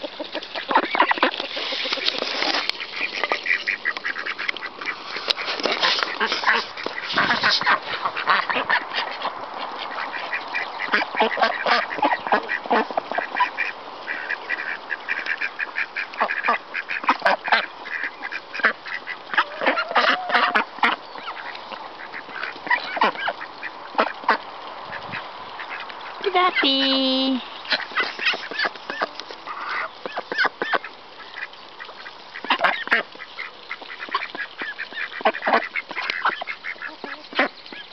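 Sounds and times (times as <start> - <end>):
ducks quacking: 0.0 - 37.9.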